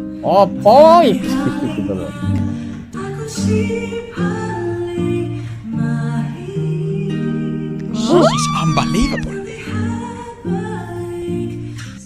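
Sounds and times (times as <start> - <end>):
acoustic guitar: 0.0 - 12.0
woman singing: 1.2 - 12.0.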